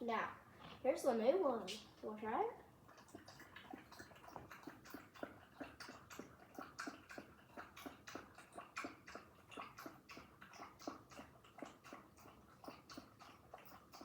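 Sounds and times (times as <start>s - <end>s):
dog lapping liquid: 2.6s - 14.0s.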